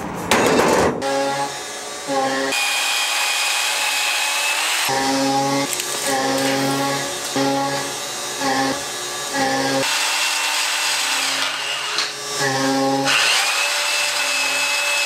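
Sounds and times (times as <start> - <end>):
band saw cutting steel: 1.0 - 15.0.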